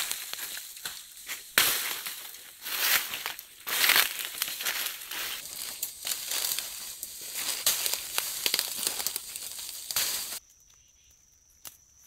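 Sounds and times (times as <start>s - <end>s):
footsteps crunching dry leaves: 0.0s - 10.4s
high insect drone: 0.0s - 12.0s.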